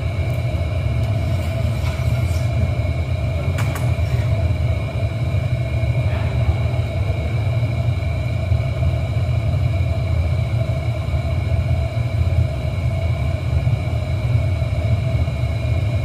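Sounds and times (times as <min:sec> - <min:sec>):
faint steady whine: 0:00.0 - 0:16.0
furnace roar: 0:00.0 - 0:16.0.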